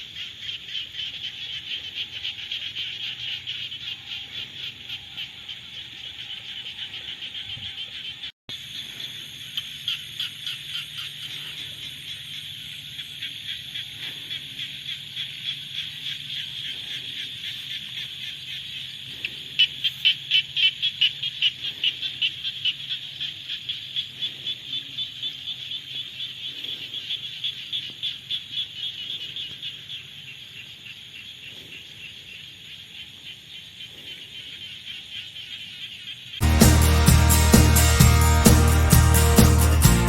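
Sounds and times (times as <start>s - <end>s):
frog chorus trilling: 0.0s - 36.5s
louder frog calling: 0.0s - 36.5s.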